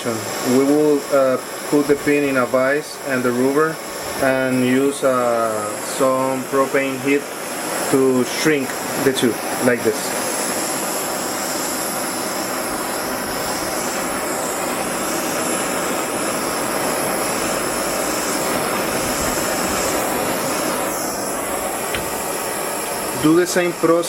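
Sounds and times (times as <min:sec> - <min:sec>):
propane torch hissing: 0:00.0 - 0:24.0.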